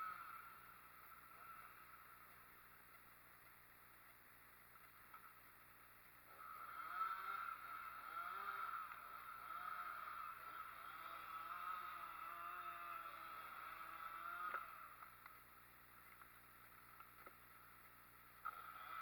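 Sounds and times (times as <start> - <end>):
chainsaw engine running: 0.0 - 3.6, 6.2 - 19.0.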